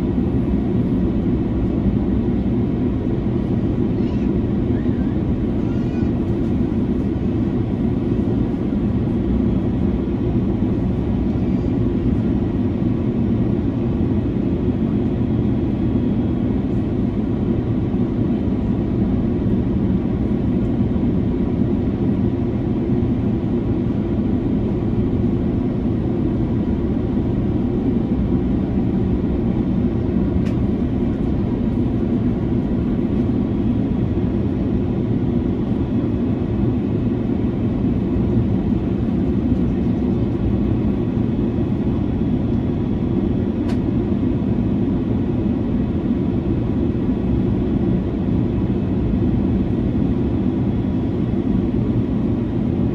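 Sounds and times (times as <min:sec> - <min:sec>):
airliner cabin engine roar: 0:00.0 - 0:52.9.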